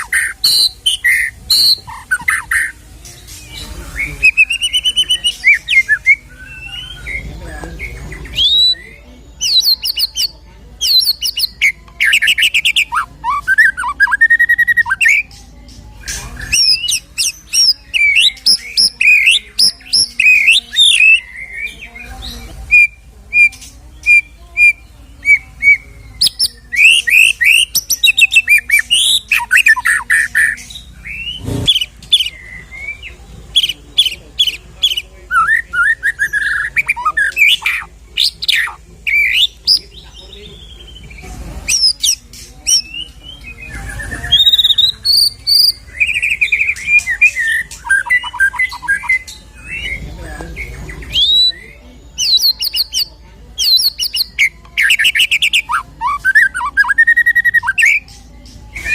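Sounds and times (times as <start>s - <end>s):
bird singing varied song: 0.0s - 58.9s.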